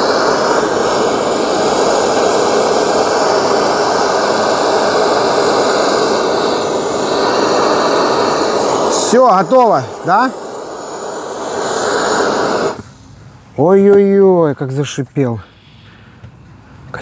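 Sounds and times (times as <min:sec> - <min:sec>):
gas torch flame hissing: 0:00.0 - 0:14.3.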